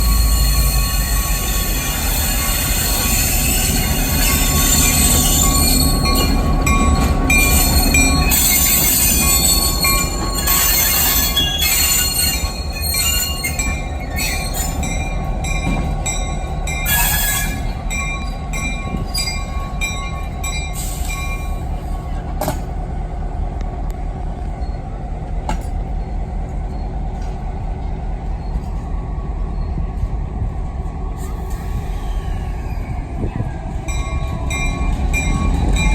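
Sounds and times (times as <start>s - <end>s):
train wheels squealing: 0.0s - 22.5s, 24.3s - 35.9s
train low rumble: 0.0s - 35.9s.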